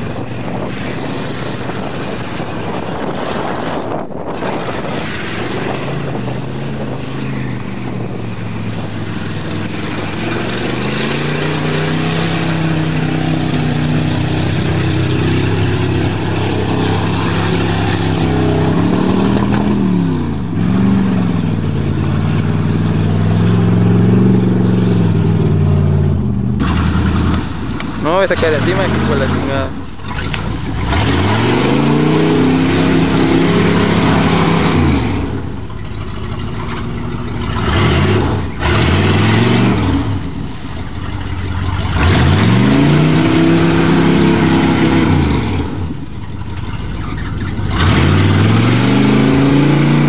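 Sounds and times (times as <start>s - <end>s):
pickup truck engine revving: 0.0s - 50.0s.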